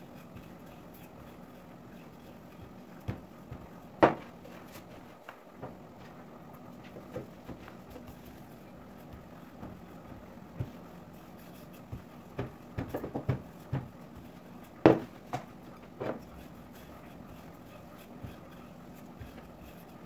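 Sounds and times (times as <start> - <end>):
rolling pin rolling dough: 0.0 - 20.0.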